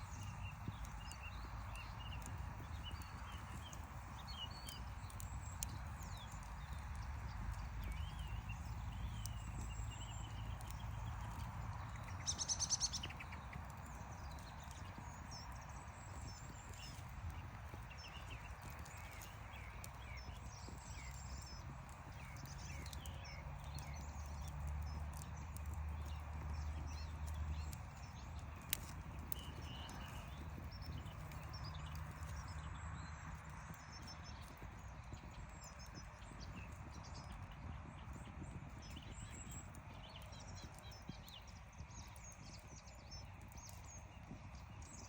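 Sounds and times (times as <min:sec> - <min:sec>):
campfire crackling and popping: 0:00.0 - 0:45.0
small birds chirping: 0:00.0 - 0:45.0.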